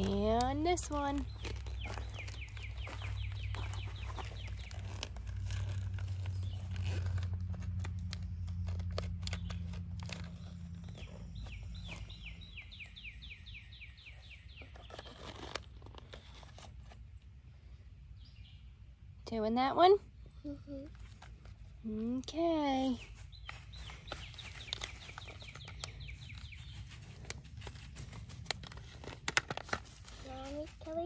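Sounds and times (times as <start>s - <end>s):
crunching of mulch and soil: 0.0s - 17.2s, 20.9s - 31.0s.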